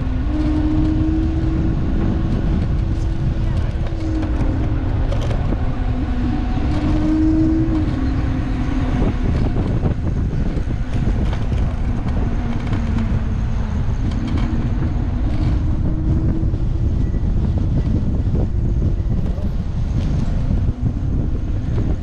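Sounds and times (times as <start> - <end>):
electric scooter motor whine: 0.0 - 22.0
road rumble: 0.0 - 22.0.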